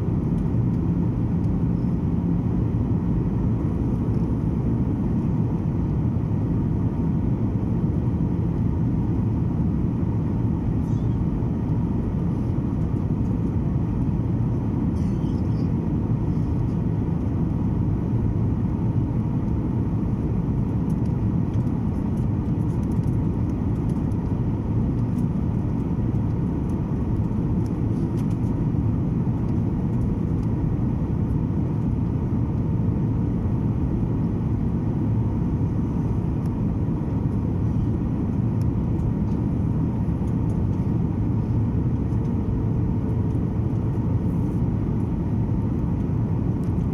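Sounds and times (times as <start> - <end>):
airliner cabin drone: 0.0 - 46.9
faint hum: 0.0 - 46.9.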